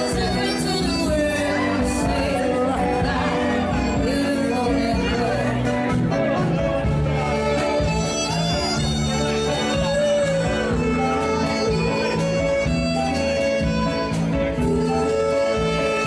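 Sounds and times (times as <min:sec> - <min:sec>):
guitar: 0:00.0 - 0:16.0
steady bass: 0:00.0 - 0:16.0
violin melody: 0:00.0 - 0:16.0.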